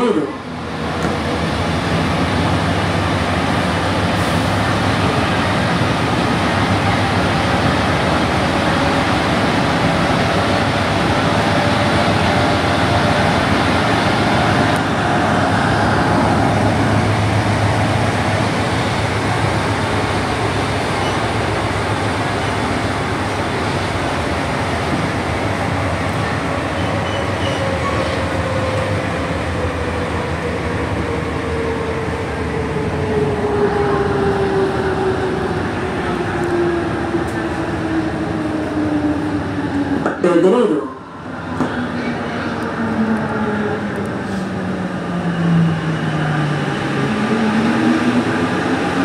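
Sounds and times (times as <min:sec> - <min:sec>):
tyres rolling on track: 0:00.0 - 0:49.0.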